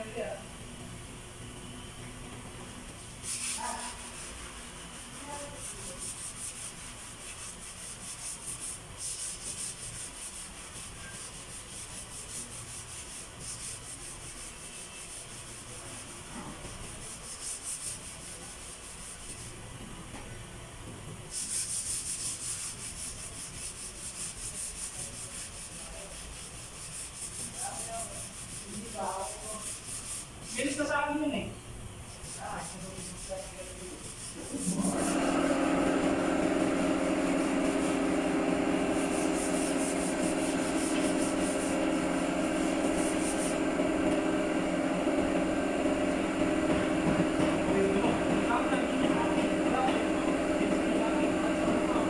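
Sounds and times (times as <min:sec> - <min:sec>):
abrasive sanding on metal panel: 0:03.0 - 0:19.6, 0:21.3 - 0:31.0, 0:32.1 - 0:52.0.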